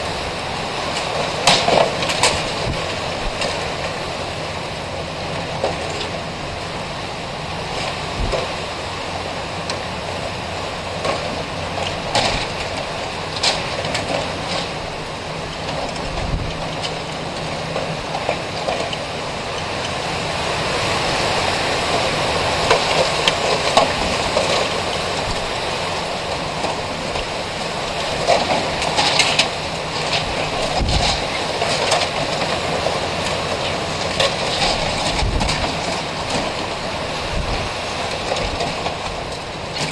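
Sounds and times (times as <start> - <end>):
strong wind gusts: 0.0 - 39.9.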